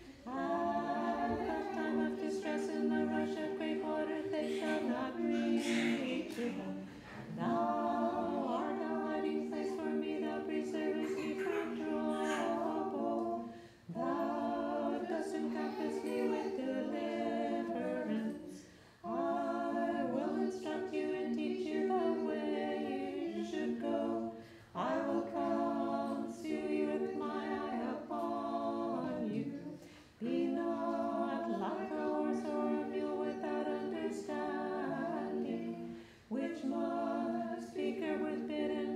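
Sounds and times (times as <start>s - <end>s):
group chanting in harmony: 0.0s - 38.9s.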